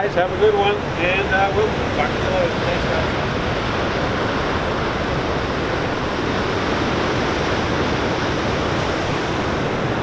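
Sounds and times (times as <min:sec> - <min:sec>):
ocean surf roaring on rocks: 0:00.0 - 0:10.0.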